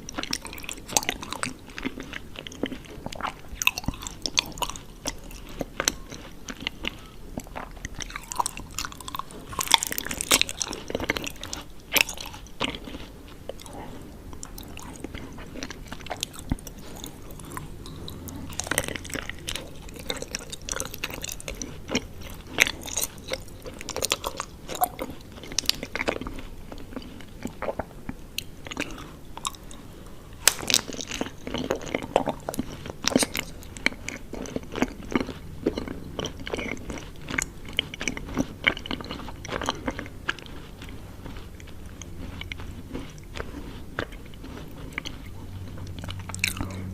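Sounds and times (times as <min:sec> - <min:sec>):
chewing honeycomb: 0:00.0 - 0:46.9.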